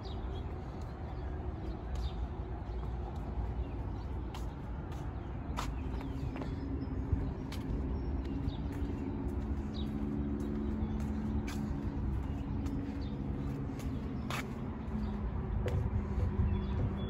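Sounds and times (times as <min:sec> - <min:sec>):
low hum of motor traffic: 0:00.0 - 0:17.0.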